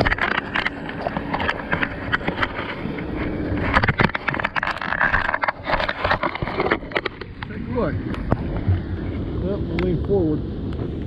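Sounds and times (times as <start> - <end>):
bilge pump humming: 0.0 - 11.0
water splashes: 0.0 - 11.0.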